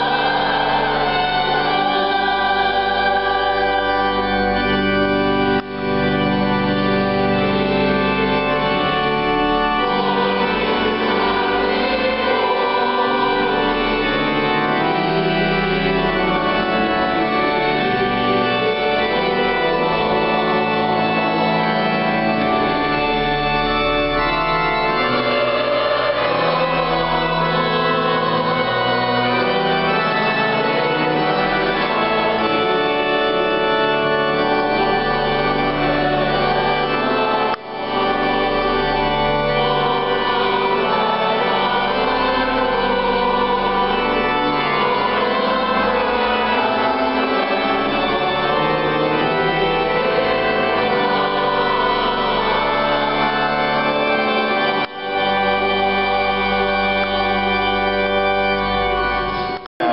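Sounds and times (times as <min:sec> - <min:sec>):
organ playing sustained chords: 0:00.0 - 0:59.9.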